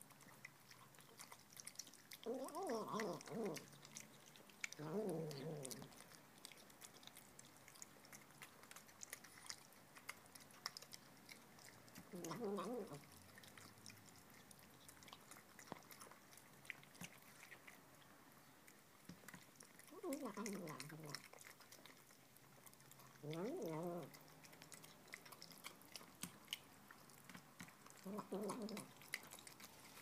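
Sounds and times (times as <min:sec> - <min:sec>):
wet chewing clicks: 0:00.0 - 0:30.0.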